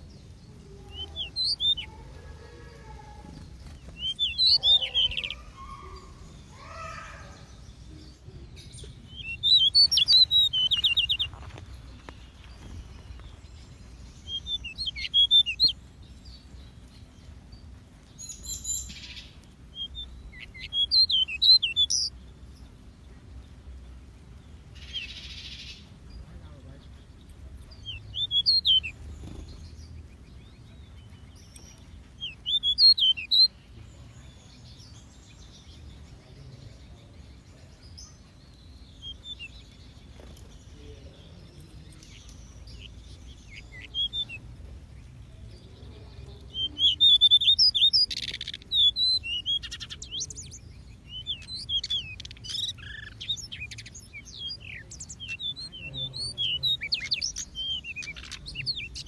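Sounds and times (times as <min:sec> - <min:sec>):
faint low hum: 0:00.0 - 0:59.0
small birds chirping: 0:00.0 - 0:59.0.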